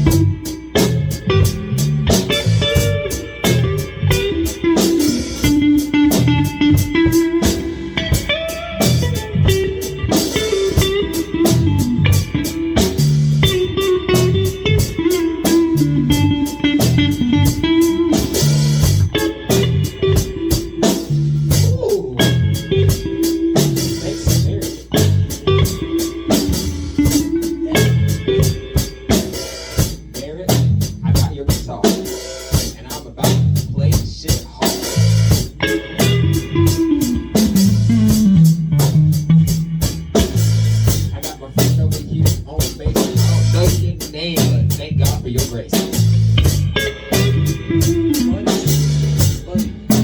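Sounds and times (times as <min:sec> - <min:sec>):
bass guitar: 0:00.0 - 0:50.0
drum kit steady beat: 0:00.0 - 0:50.0
electric guitar bluesy line: 0:00.0 - 0:50.0.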